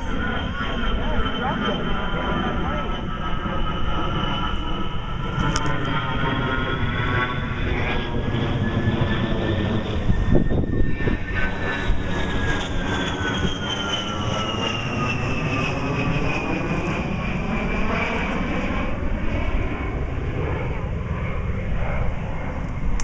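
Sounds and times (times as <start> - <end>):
jet aircraft flying past: 0.0 - 23.0.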